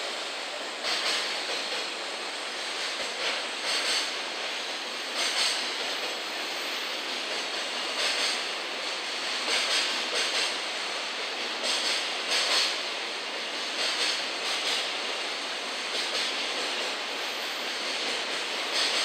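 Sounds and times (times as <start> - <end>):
train wheels rumbling on rails: 0.0 - 19.0
hissing clatters: 0.1 - 6.2, 7.0 - 19.0.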